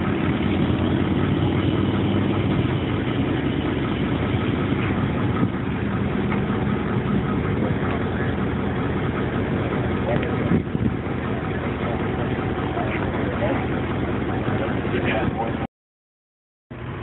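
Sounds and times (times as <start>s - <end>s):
engine idling: 0.0s - 15.7s, 16.7s - 17.0s.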